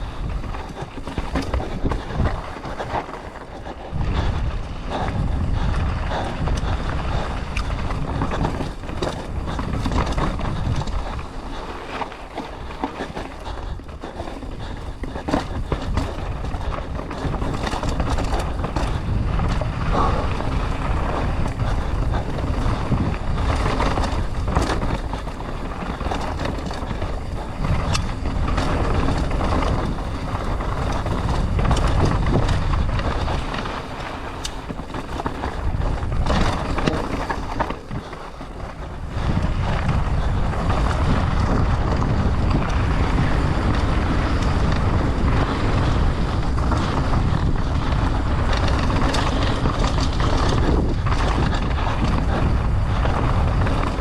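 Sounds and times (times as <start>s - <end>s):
bike clattering over rough ground: 0.0s - 54.0s
tyres on dirt and rock: 0.0s - 54.0s
wind rushing over microphone: 0.0s - 54.0s.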